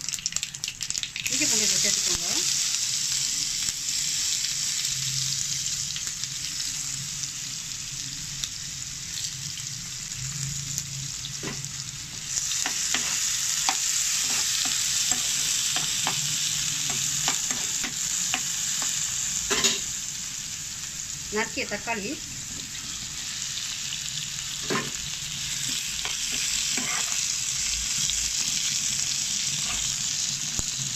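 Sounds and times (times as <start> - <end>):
spices sizzling in hot oil: 0.0 - 30.9.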